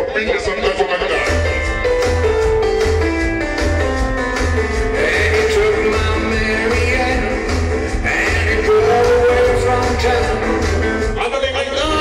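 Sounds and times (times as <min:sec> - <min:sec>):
loud rock and roll song: 0:00.0 - 0:12.0.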